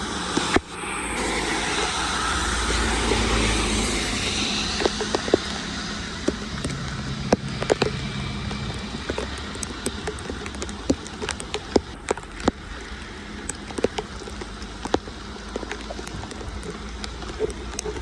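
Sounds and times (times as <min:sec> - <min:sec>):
low vehicle hum: 0:00.0 - 0:18.0
rain falling on street: 0:00.0 - 0:18.0.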